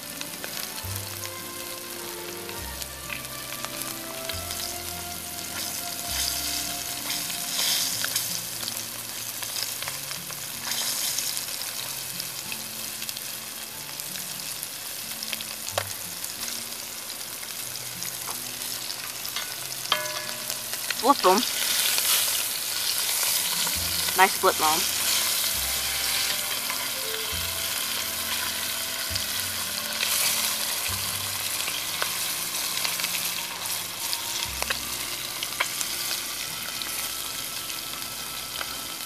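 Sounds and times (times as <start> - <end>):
frying food sizzling: 0.0 - 39.0.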